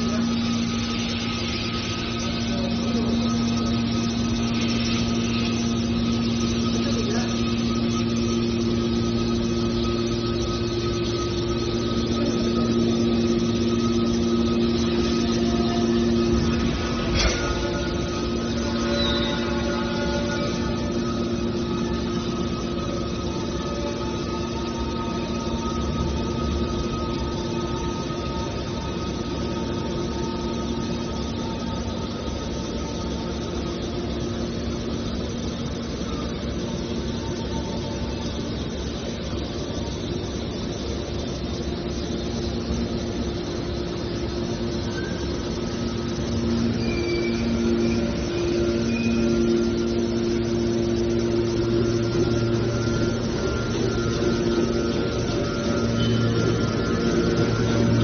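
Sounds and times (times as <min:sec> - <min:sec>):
electric motor and pump humming: 0:00.0 - 0:58.0.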